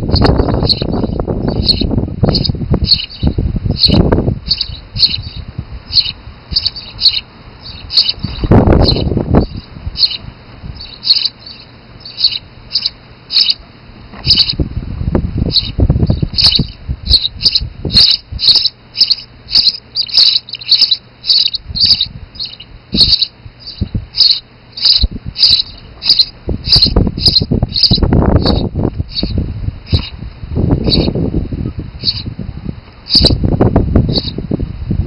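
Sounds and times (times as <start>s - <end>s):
nestlings chirping: 0.0s - 14.6s, 15.4s - 34.4s.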